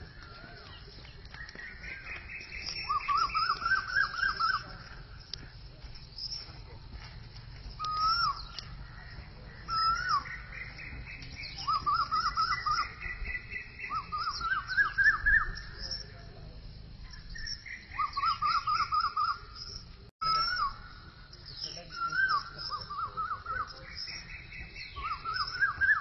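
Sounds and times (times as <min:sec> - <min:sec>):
birds whistling and trilling: 0:00.0 - 0:26.0
faint high chirps: 0:00.0 - 0:26.0.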